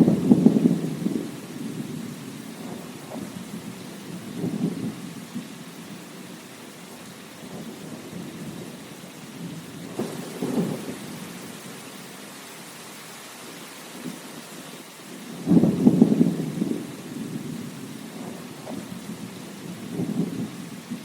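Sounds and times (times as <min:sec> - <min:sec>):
thunder rumbling: 0:00.0 - 0:11.8, 0:15.1 - 0:21.0
steady rain: 0:00.0 - 0:21.0.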